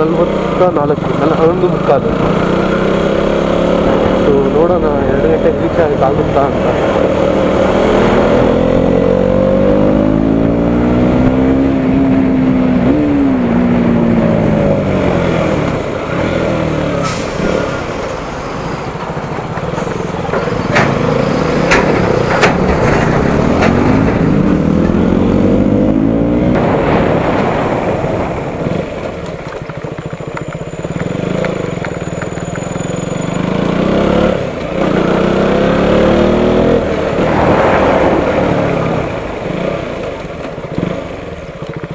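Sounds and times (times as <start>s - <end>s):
motorcycle engine accelerating: 0.0s - 41.9s
road noise: 0.0s - 41.9s.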